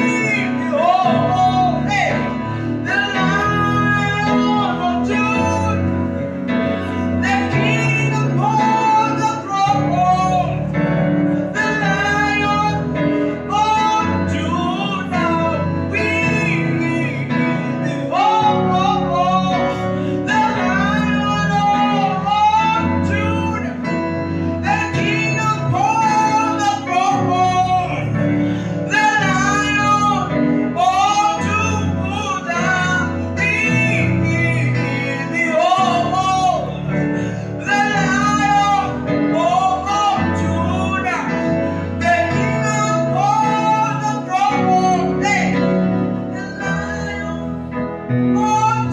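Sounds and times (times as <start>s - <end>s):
instrumental accompaniment: 0.0s - 48.9s
person singing with vibrato: 0.0s - 48.9s.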